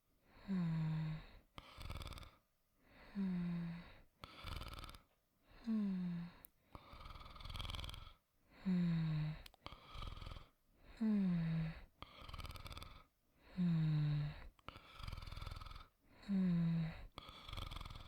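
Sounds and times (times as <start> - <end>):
person snoring softly: 0.2 - 18.0.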